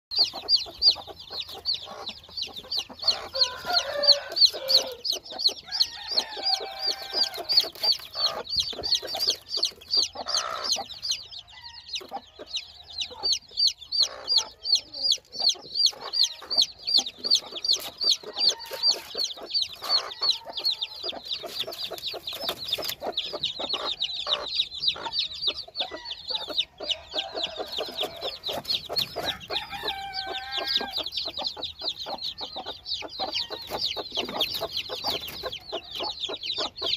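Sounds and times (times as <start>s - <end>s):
chicks peeping: 0.1s - 36.9s
hen clucking: 0.1s - 36.9s.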